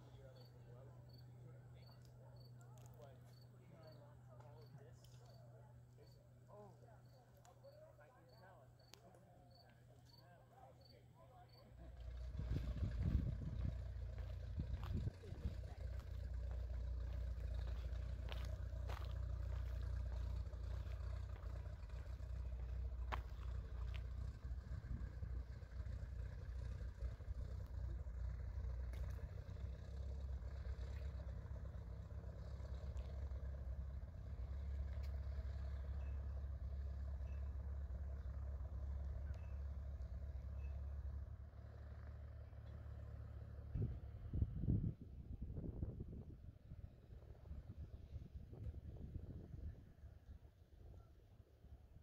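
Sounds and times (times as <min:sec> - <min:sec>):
distant engine rumble: 0:00.0 - 0:52.0.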